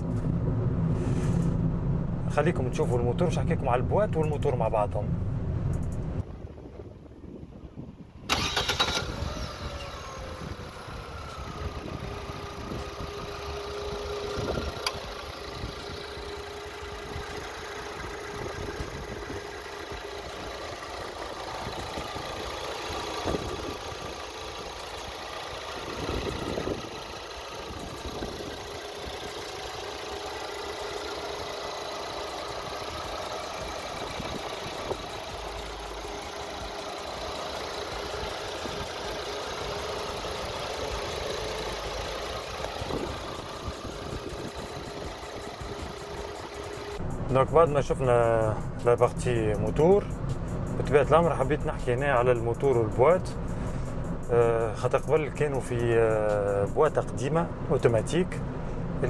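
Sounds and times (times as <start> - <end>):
car engine revving then idling: 8.3 - 56.8.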